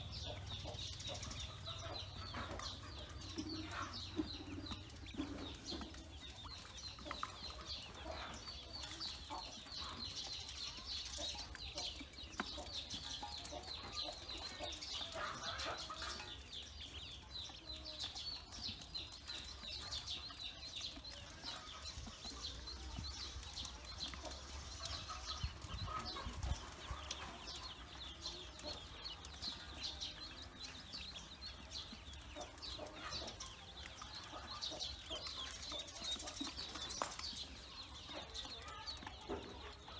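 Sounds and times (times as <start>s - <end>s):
bills pecking in metal basin: 0.0s - 39.9s
ducklings peeping: 0.0s - 39.9s.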